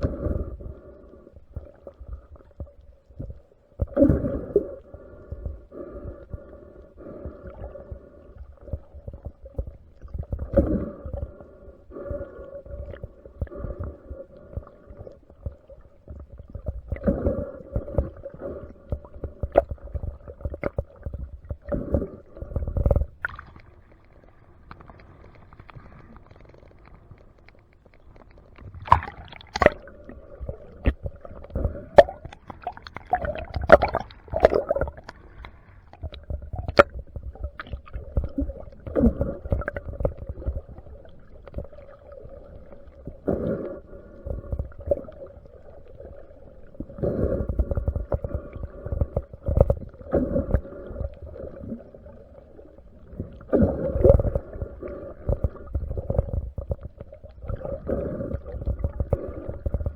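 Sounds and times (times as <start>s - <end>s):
underwater gurgling: 0.0s - 59.9s.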